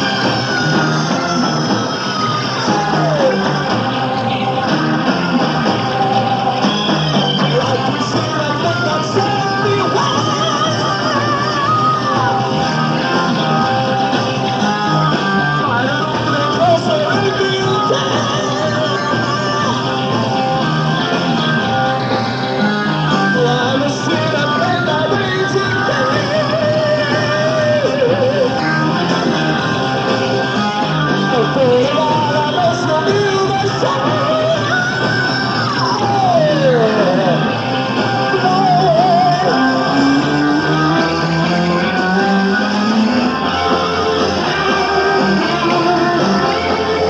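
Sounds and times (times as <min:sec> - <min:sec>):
electric guitar: 0:00.0 - 0:47.0
live rock band with singing: 0:00.0 - 0:47.0.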